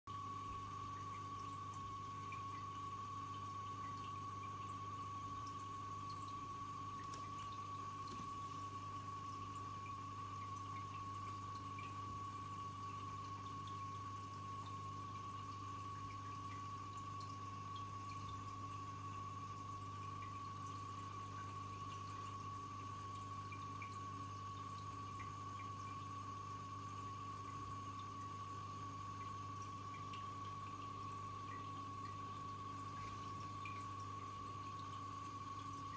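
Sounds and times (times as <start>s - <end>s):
aquarium pump humming: 0.1s - 35.9s
water trickling and dripping: 0.1s - 35.9s.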